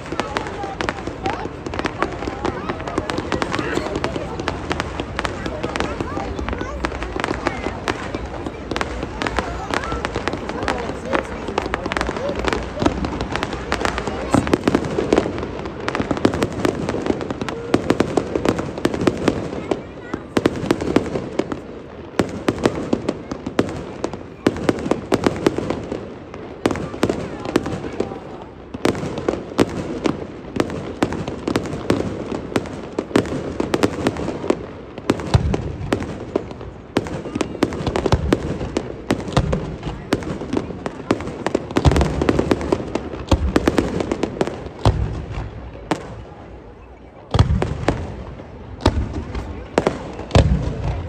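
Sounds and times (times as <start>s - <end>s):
fireworks booming: 0.0s - 51.0s
fireworks crackling: 0.0s - 51.0s.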